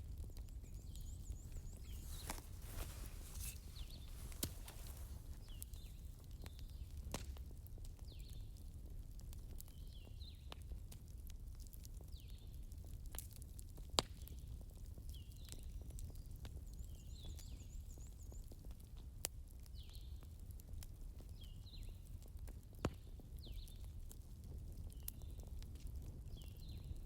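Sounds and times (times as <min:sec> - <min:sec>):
wood fire crackling and popping: 0:00.0 - 0:16.7, 0:18.5 - 0:27.0.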